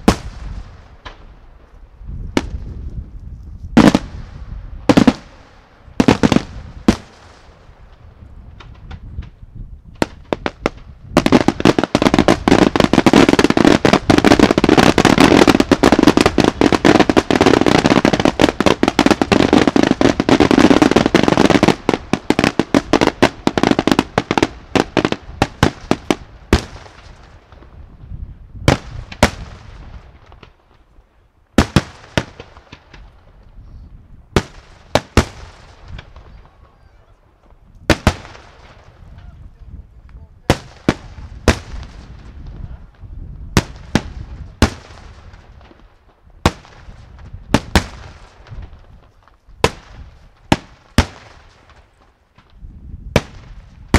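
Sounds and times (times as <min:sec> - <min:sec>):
fireworks bangs: 0:00.0 - 0:01.4, 0:03.7 - 0:28.0, 0:28.6 - 0:30.8, 0:31.6 - 0:53.9
rapid fireworks crackling: 0:00.0 - 0:53.9.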